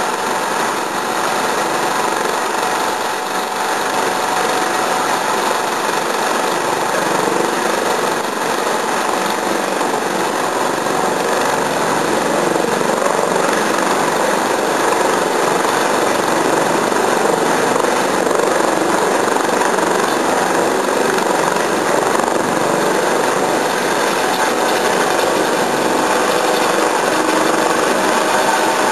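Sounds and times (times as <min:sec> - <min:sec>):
helicopter turbines and rotor: 0:00.0 - 0:28.9.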